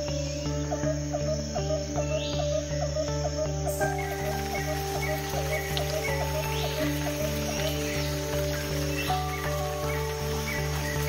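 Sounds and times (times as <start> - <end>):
background music with pulsing beat: 0.0 - 11.0.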